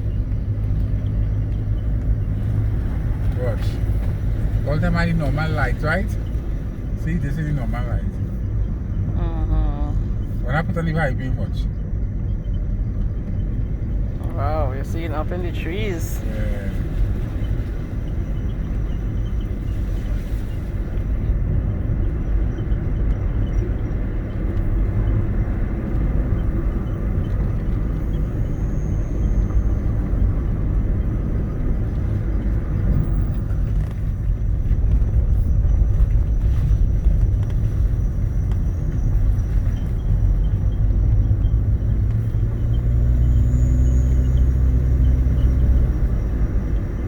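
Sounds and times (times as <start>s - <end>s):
car engine rumble: 0.0s - 47.0s
tyre road noise: 0.0s - 47.0s.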